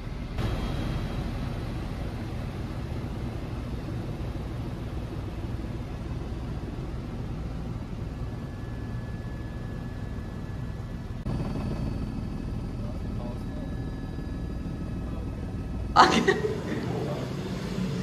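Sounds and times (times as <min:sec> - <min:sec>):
helicopter rotor and engine rumble: 0:00.0 - 0:18.0.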